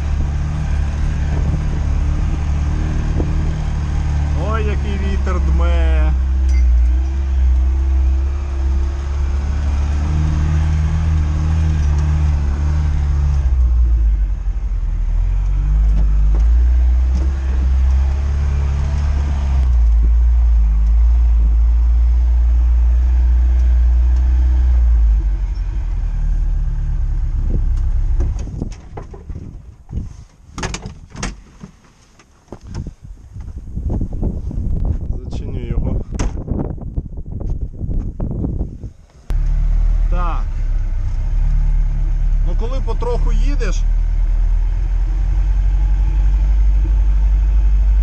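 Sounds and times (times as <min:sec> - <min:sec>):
car engine droning: 0:00.0 - 0:30.3, 0:32.0 - 0:48.0.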